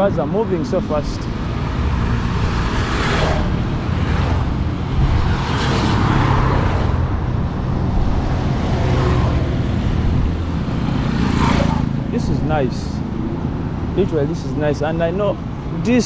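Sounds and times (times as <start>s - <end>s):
cars passing by: 0.0s - 16.0s.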